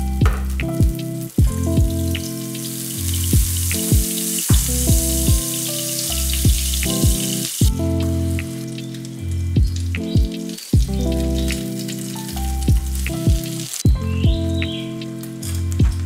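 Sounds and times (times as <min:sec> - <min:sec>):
background music with a beat: 0:00.0 - 0:16.0
butter sizzling in a frying pan: 0:01.0 - 0:16.0.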